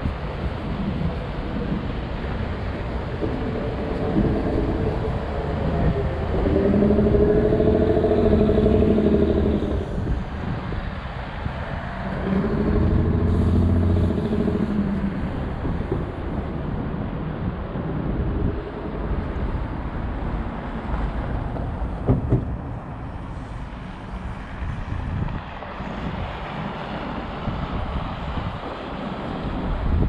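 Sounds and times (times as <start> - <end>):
steady low traffic rumble: 0.0 - 30.0
vehicles passing: 0.0 - 30.0.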